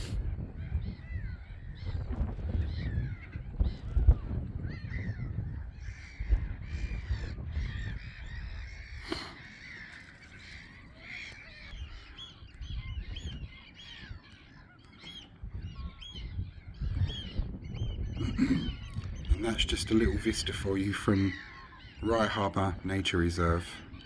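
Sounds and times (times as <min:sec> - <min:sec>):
gulls and waterbirds calling: 0:00.0 - 0:24.0.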